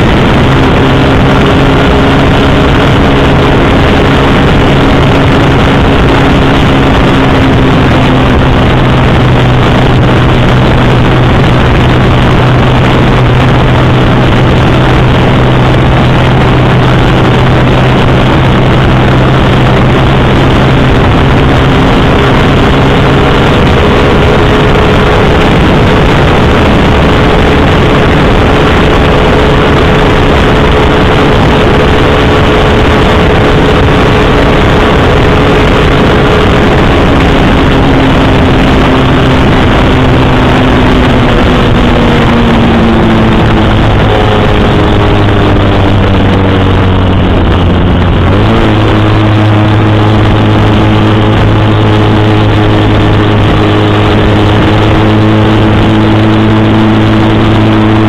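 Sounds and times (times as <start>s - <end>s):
motorcycle engine running: 0.0s - 58.0s
road noise: 0.0s - 58.0s
wind noise: 0.0s - 58.0s.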